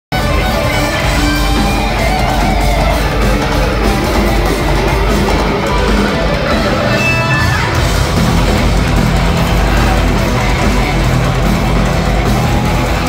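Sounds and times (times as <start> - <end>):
live heavy metal band: 0.1 - 13.0.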